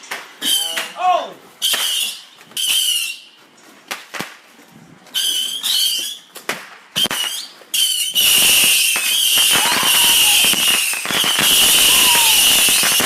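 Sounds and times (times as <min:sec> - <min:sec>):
fireworks popping: 0:00.0 - 0:01.0, 0:01.6 - 0:13.0
fireworks whistling: 0:00.0 - 0:13.0.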